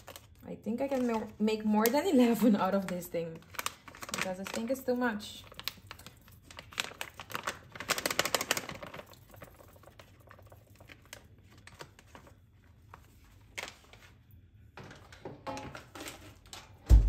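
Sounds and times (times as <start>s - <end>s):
packet crinkling: 0.0s - 14.2s.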